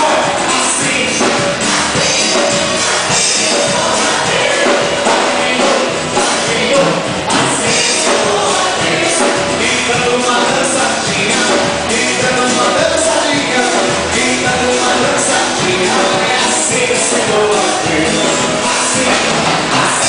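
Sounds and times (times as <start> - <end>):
congregation singing: 0.0 - 20.0
worship band playing: 0.0 - 20.0.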